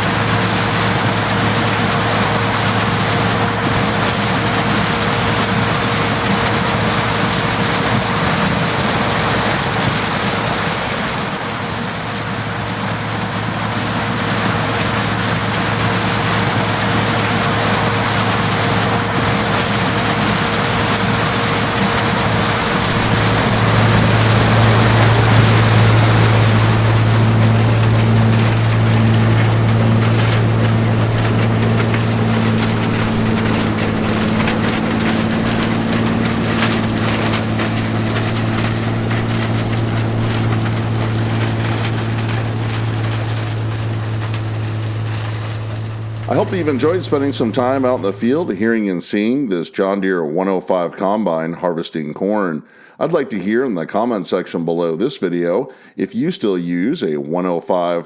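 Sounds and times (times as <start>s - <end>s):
combine harvester running: 0.0s - 48.6s.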